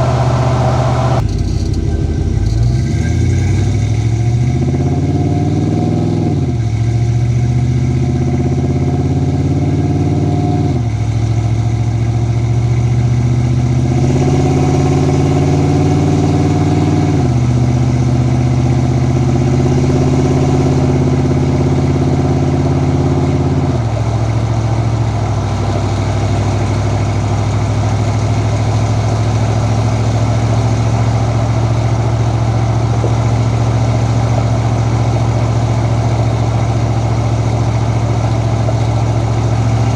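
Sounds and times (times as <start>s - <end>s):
car engine revving through gears: 0.0s - 1.8s, 2.4s - 39.9s.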